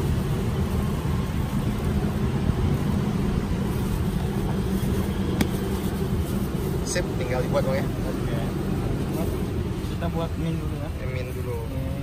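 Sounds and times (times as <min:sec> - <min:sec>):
engine running rumble: 0:00.0 - 0:12.0.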